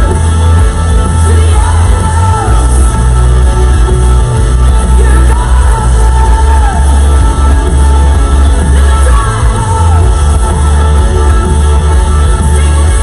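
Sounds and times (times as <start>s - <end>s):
concert music from tv: 0.0s - 13.0s.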